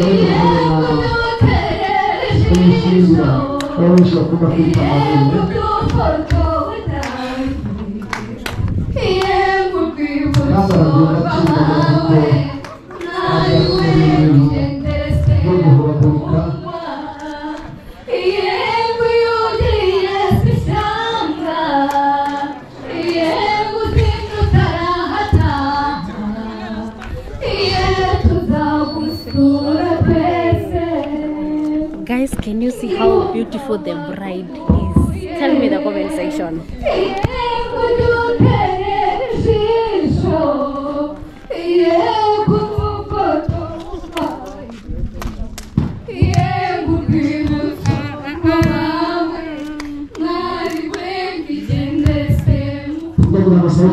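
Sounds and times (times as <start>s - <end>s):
group of voices singing: 0.0s - 53.9s
women singing over loudspeaker: 0.0s - 53.9s.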